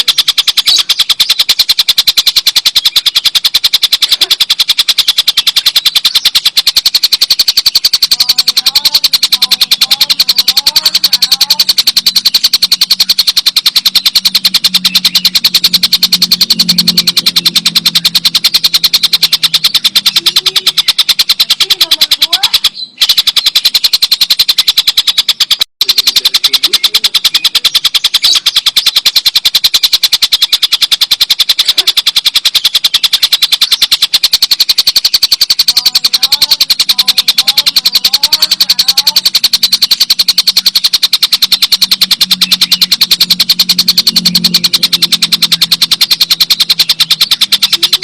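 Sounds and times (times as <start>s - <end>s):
kingfisher rattling cackle: 0.0s - 48.0s.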